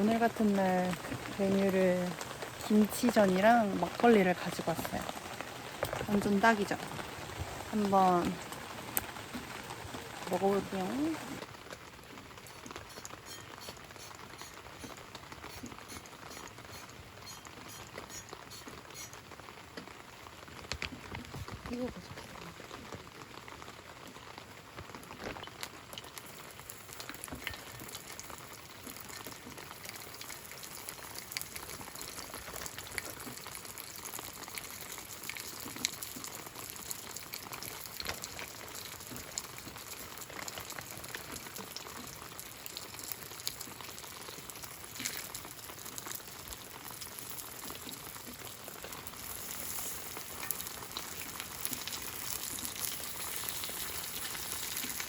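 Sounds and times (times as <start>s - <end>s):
pancake sizzling in oil: 0.0s - 21.9s, 22.6s - 55.0s.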